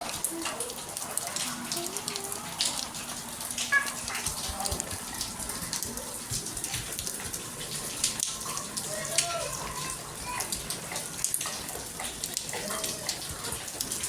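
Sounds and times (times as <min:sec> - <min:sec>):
rain falling: 0:00.0 - 0:14.0
water splashing and running: 0:00.0 - 0:14.0.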